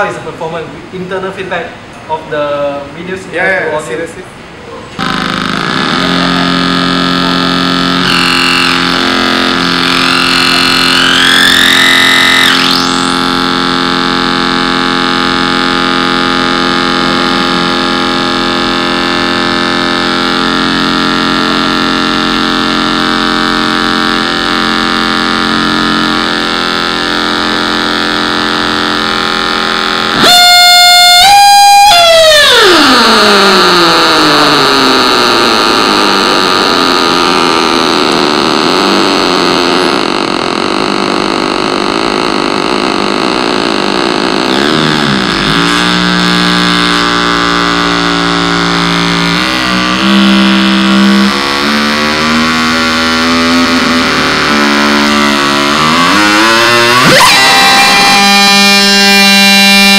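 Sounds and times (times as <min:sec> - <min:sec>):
buzzing feedback drone: 0:04.7 - 0:59.9
piercing feedback tone: 0:04.7 - 0:59.9
wavering whistle rising in pitch: 0:05.0 - 0:37.6, 0:44.5 - 0:59.9.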